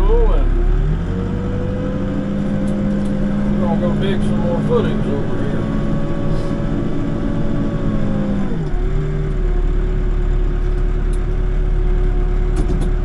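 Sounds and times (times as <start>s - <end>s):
diesel engine slowing: 0.0s - 13.0s.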